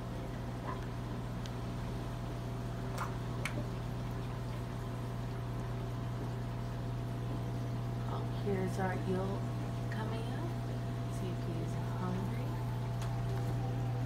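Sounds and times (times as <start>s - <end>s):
aquarium pump humming: 0.0s - 14.0s.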